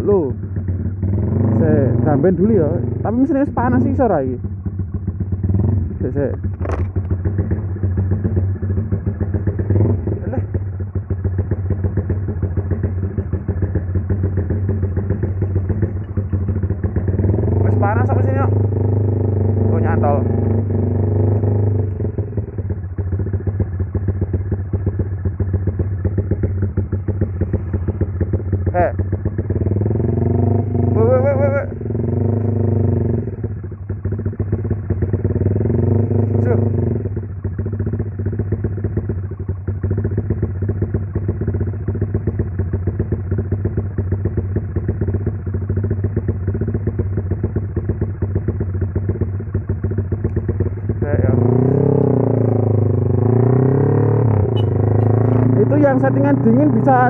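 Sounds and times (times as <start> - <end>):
motorcycle engine choppy pulsing: 0.0 - 57.0.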